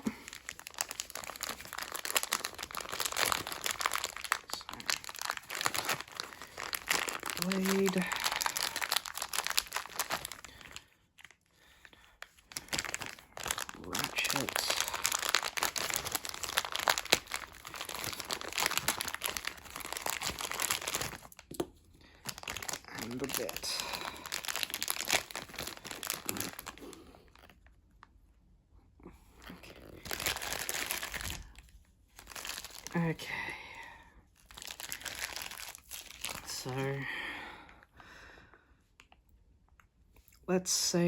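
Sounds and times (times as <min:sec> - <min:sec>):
plastic packaging crinkling: 0:00.0 - 0:28.0, 0:29.4 - 0:33.1, 0:34.4 - 0:36.9.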